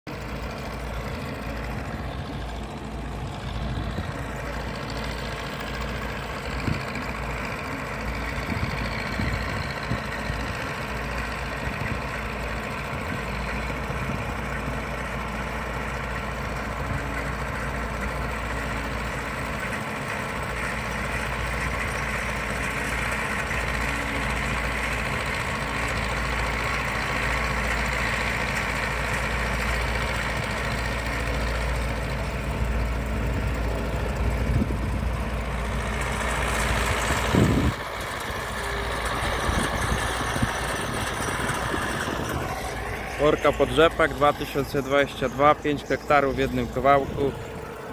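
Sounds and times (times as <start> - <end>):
tractor diesel engine under load: 0.1 - 47.9.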